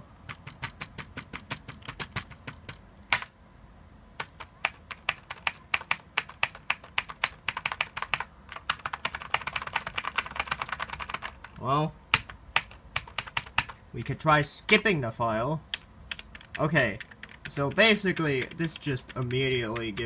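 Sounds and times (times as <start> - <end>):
computer keyboard typing: 0.2 - 3.3, 4.2 - 13.8, 15.7 - 20.0.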